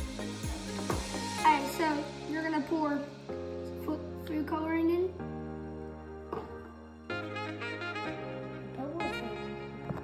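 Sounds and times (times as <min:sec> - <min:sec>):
held melody over bass line: 0:00.0 - 0:10.0.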